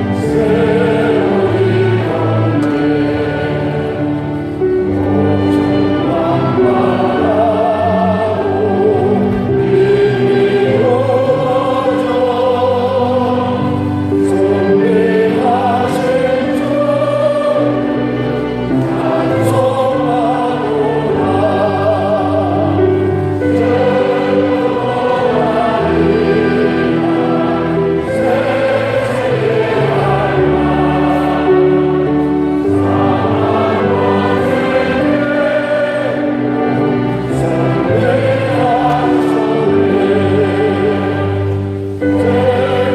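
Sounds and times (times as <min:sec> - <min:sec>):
congregation singing a hymn: 0:00.0 - 0:42.9
instrumental accompaniment: 0:00.0 - 0:42.9.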